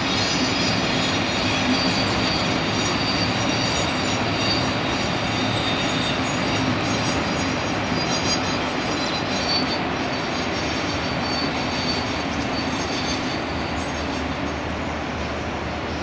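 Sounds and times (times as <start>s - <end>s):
high wavering wheel squeal: 0.0s - 16.0s
train wheels rumbling on track: 0.0s - 16.0s.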